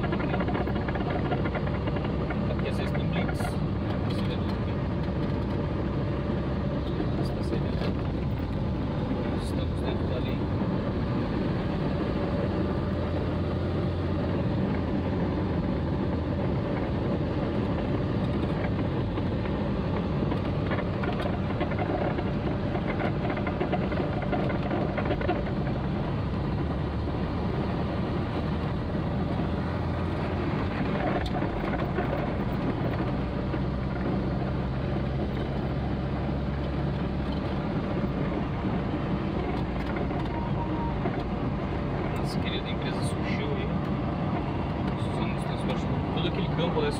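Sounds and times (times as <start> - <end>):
car engine hum: 0.0 - 46.9
tyres on wet road: 0.0 - 46.9.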